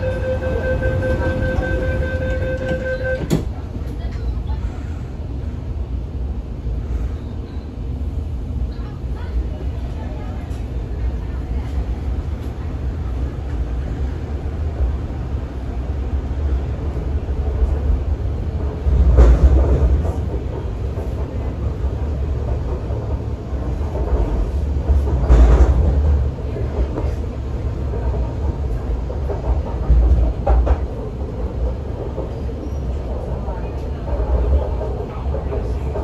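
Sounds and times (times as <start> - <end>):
electric train rumbling on track: 0.0 - 36.0.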